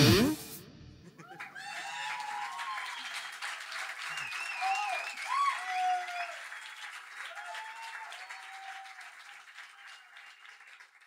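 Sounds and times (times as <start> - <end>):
shouted cheers: 1.2 - 10.4
audience applauding: 1.2 - 11.0.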